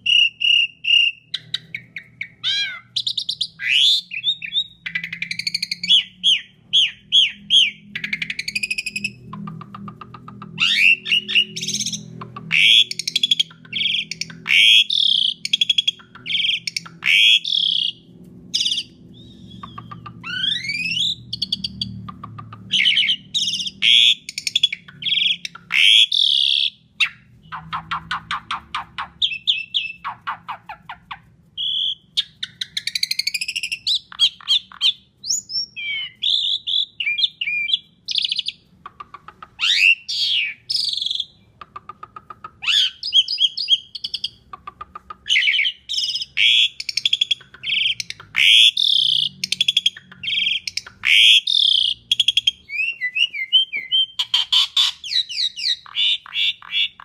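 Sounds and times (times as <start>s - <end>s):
starling singing: 0.0s - 57.0s.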